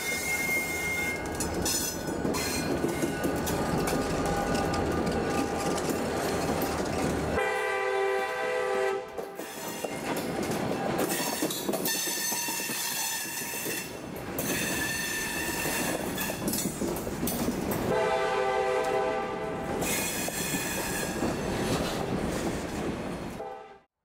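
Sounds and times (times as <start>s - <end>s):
train wheels clattering on rails: 0.0s - 8.4s, 9.0s - 23.5s.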